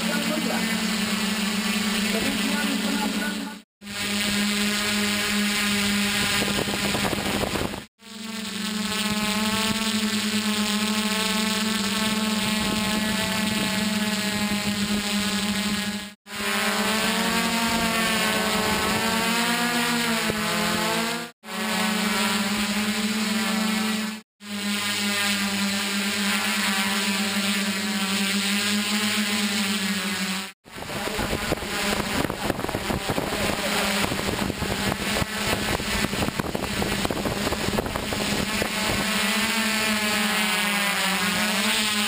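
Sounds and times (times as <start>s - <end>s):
drone motors buzzing: 0.0s - 42.0s.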